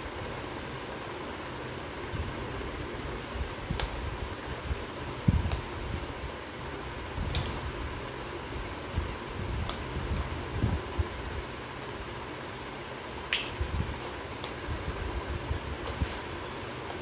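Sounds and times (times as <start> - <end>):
steady background whir: 0.0 - 17.0.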